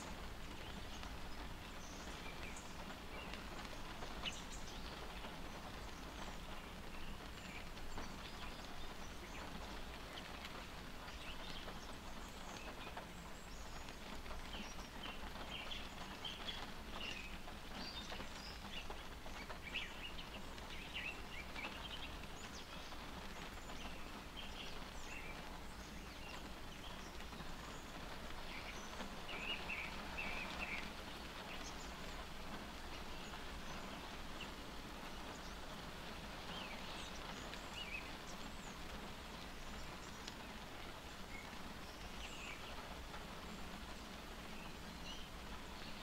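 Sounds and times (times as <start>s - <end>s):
rain pattering on car roof: 0.0s - 46.0s.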